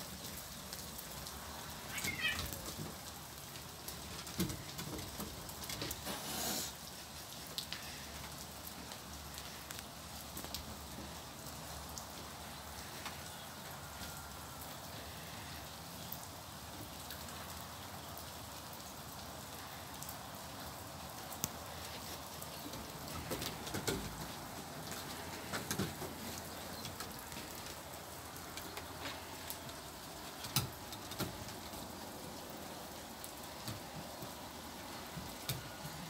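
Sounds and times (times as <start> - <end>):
rain dripping on wooden deck: 0.0 - 36.0.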